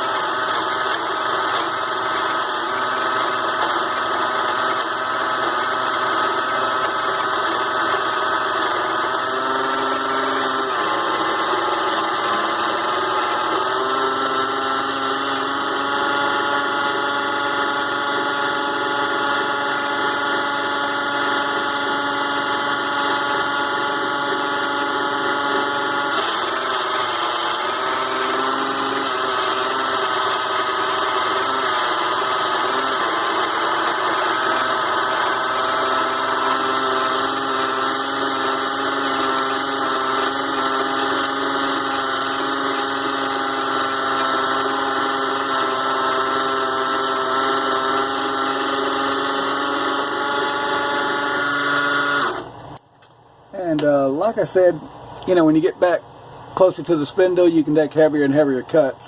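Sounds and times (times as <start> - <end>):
lathe motor whining: 0.0 - 52.8.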